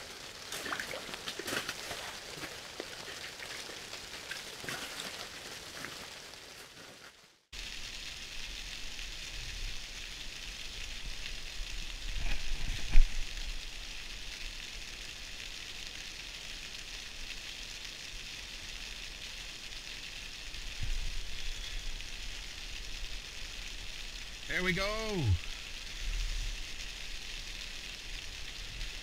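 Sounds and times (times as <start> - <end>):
rain pattering on fabric roof: 0.0 - 29.0.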